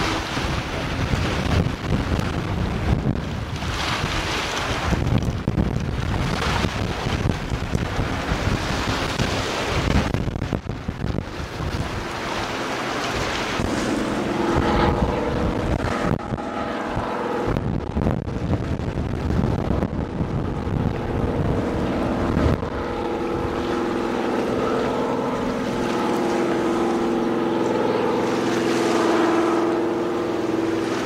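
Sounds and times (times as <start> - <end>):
boat engine droning: 0.0 - 31.0
wind buffeting microphone: 0.0 - 31.0.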